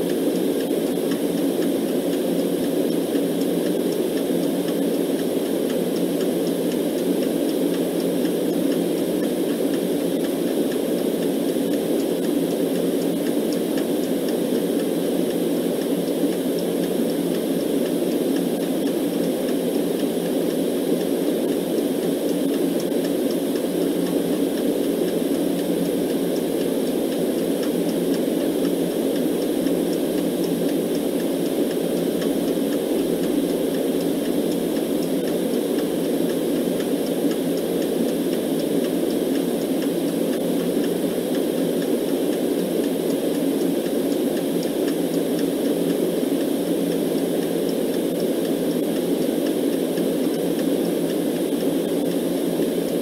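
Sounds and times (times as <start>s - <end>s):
faint clock ticking: 0.0s - 53.0s
low rumbling white noise: 0.0s - 53.0s.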